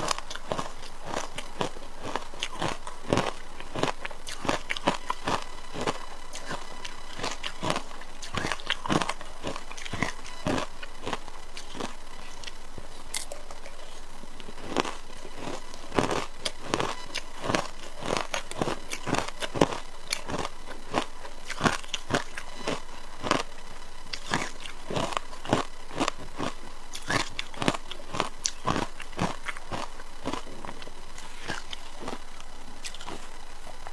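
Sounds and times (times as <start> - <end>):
person crunching frozen ice: 0.0 - 23.5, 24.1 - 32.2, 32.8 - 33.3.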